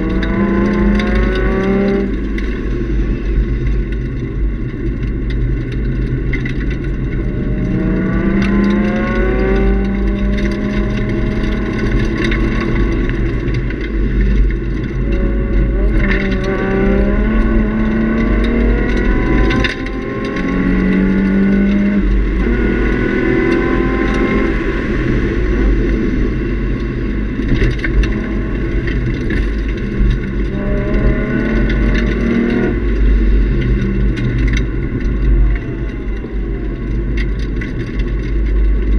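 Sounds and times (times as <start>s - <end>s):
car engine revving under acceleration: 0.0s - 38.9s
steady low rumble: 0.0s - 38.9s.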